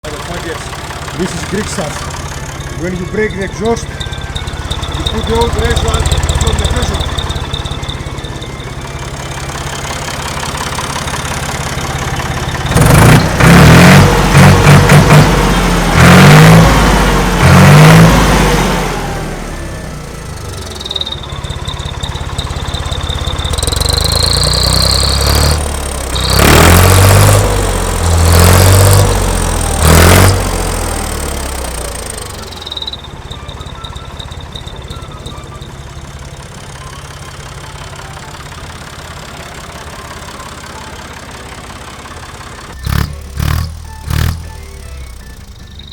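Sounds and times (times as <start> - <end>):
tractor engine revving: 0.0 - 45.9.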